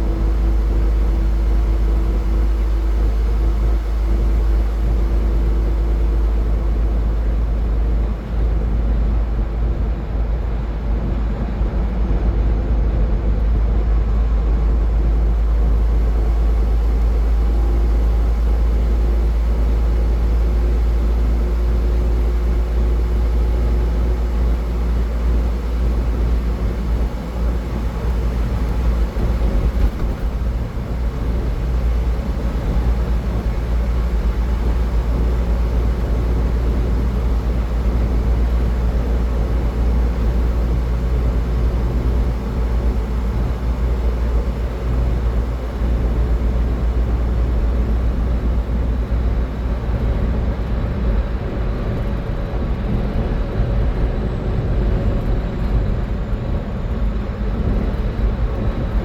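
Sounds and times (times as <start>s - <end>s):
road and tyre noise: 0.0s - 59.0s.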